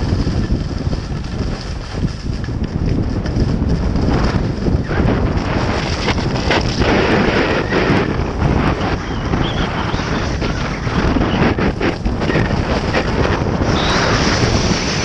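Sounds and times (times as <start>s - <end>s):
heavy wind on microphone: 0.0s - 15.0s
skis scraping over snow: 0.0s - 15.0s.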